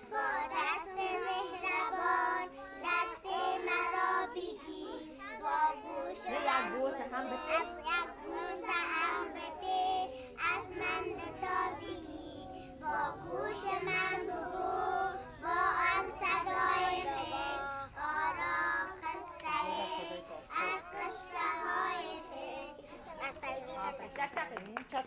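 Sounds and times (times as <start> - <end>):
children singing: 0.0 - 23.4.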